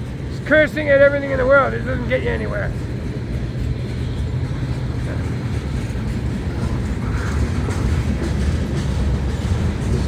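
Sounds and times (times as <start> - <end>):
freight train wheels rumbling on rail: 0.0 - 10.0.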